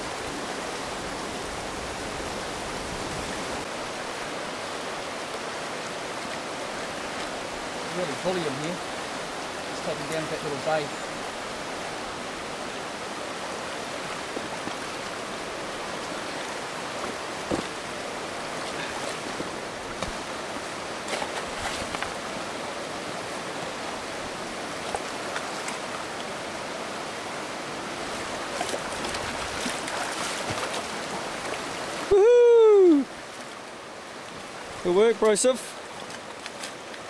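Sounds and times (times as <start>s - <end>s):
river water rushing over stones: 0.0s - 37.0s.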